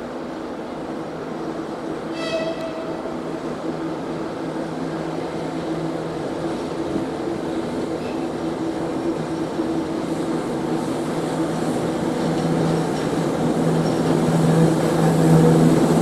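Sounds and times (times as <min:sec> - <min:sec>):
diesel locomotive engine humming: 0:00.0 - 0:16.0.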